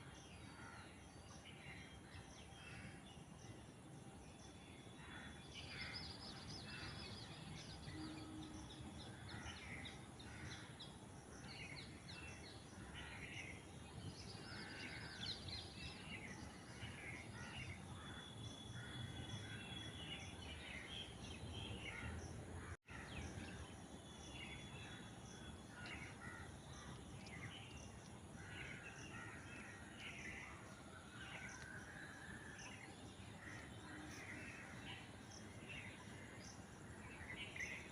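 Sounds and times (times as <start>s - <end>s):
birds calling: 5.0s - 37.9s.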